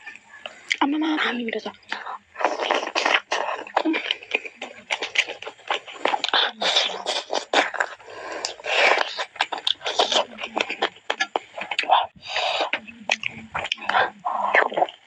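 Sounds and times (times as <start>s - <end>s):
wet chewing and lip smacking: 0.0s - 0.9s, 1.7s - 15.0s.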